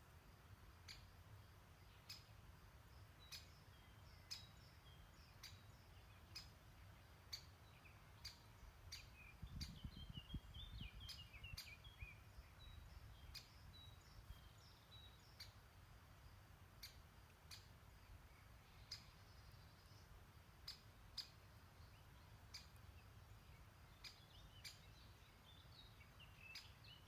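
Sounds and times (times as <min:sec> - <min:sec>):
faint songbird calls: 0:00.6 - 0:27.0.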